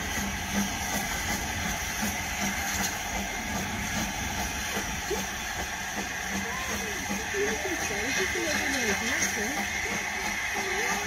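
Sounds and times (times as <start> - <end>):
steam hissing: 0.0 - 11.0
steam locomotive exhaust beats: 0.0 - 11.0.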